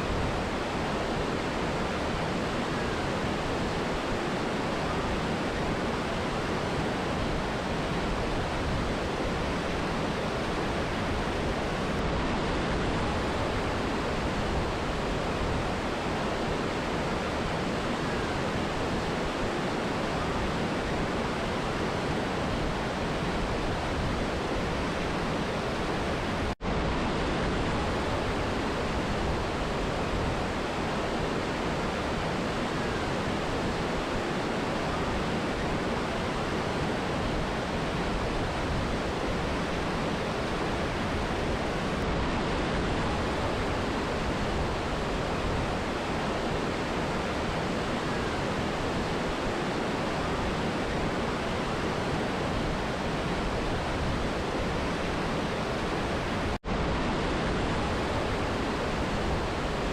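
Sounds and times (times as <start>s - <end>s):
rushing river and waterfall: 0.0s - 59.9s.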